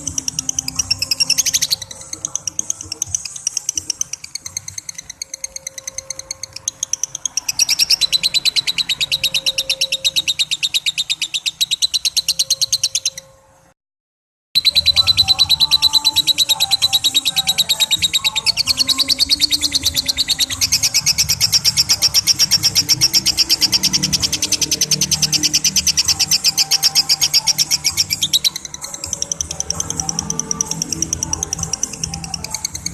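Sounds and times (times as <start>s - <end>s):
lovebird chattering: 0.0s - 13.3s, 14.6s - 32.9s.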